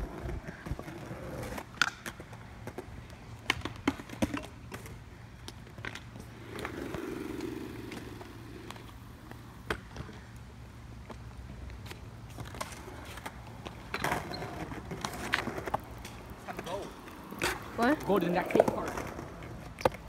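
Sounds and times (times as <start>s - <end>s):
wheels rolling on concrete: 0.0s - 20.0s.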